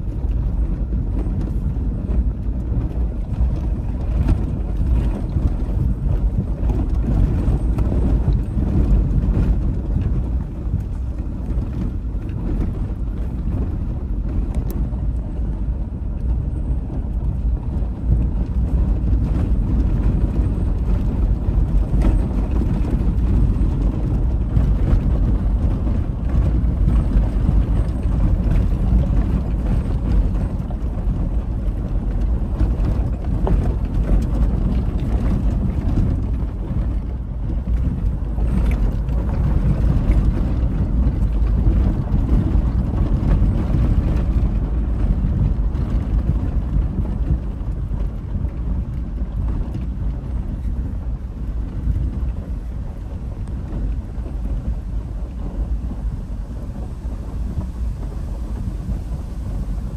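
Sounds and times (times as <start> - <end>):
vehicle rumble: 0.0 - 59.9
wind buffeting microphone: 0.0 - 59.9.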